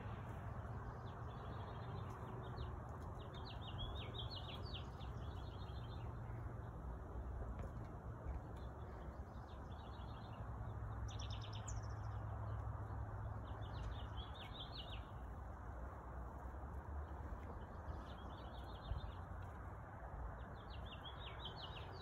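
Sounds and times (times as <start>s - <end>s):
low outdoor background noise: 0.0s - 22.0s
small birds chirping: 0.1s - 22.0s.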